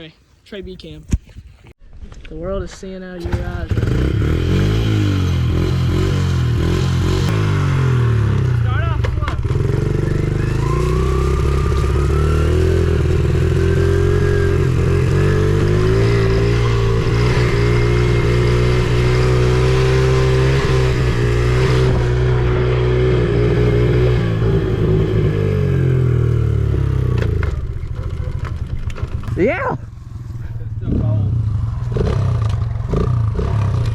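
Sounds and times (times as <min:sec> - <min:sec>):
small motorbike engine running: 0:03.7 - 0:33.9.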